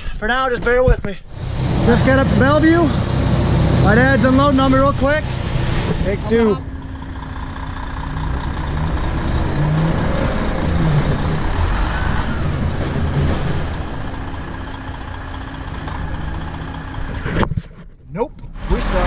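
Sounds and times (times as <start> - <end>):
diesel engines running: 1.2 - 19.0.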